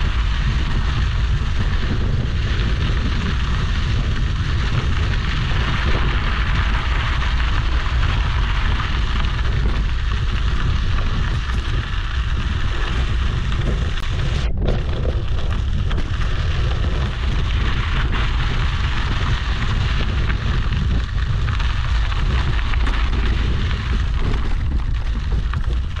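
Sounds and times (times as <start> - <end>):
tyres crunching over gravel: 0.0 - 26.0
wind buffeting microphone: 0.0 - 26.0.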